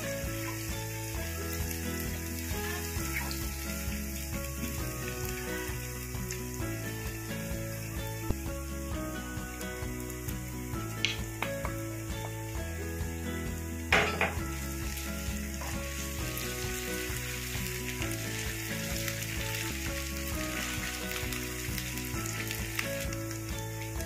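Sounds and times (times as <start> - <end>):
faint background music: 0.0 - 24.0
onions sizzling in oil: 0.0 - 24.0.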